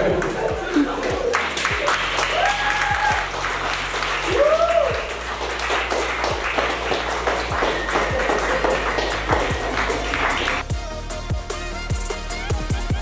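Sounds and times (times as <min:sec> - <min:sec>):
people clapping: 0:00.0 - 0:10.7
background music: 0:00.0 - 0:13.0.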